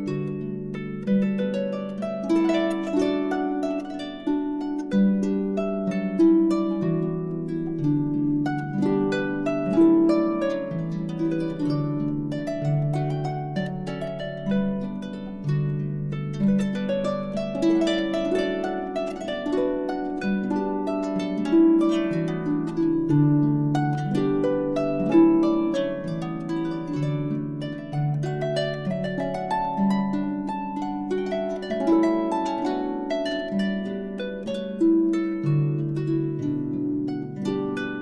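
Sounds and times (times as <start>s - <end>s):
harp music: 0.0s - 38.0s.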